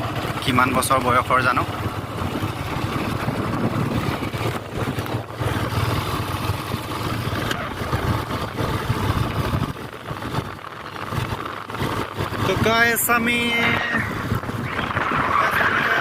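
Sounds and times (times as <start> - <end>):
road noise: 0.0 - 16.0
vehicle engine rumbling: 0.0 - 16.0.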